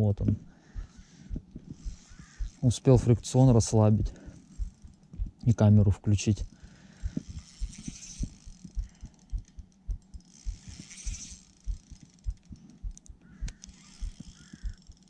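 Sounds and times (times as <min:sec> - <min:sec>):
soft low thumps of fishing reel: 0:00.0 - 0:15.0
faint fine ticking: 0:00.2 - 0:15.0.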